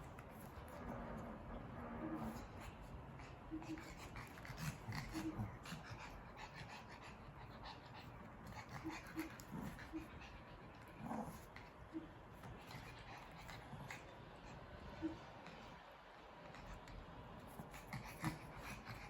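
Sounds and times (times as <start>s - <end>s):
small dogs panting: 0.0s - 19.0s
soft low dog noises: 0.0s - 19.0s.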